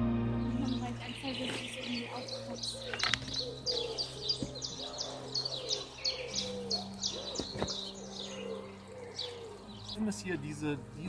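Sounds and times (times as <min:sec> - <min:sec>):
birds chirping: 0:00.4 - 0:11.0.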